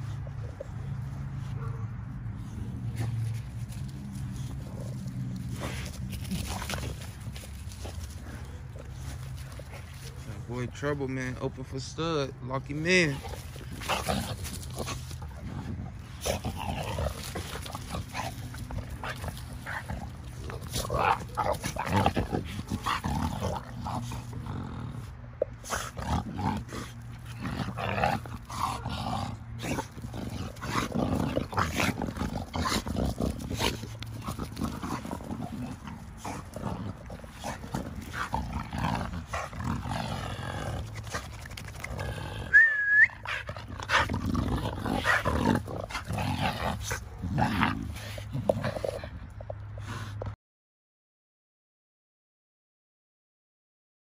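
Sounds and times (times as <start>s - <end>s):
dogs grunting and growling: 0.0s - 50.4s.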